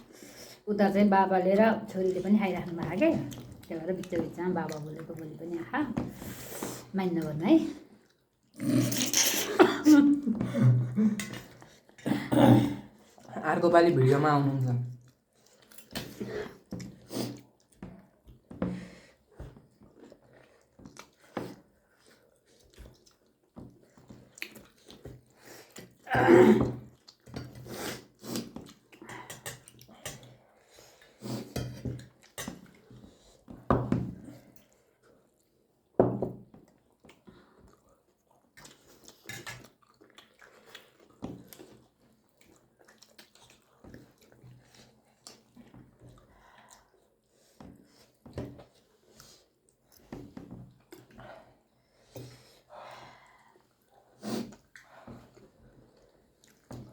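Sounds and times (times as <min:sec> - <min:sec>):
people chewing food: 0:00.0 - 0:56.9.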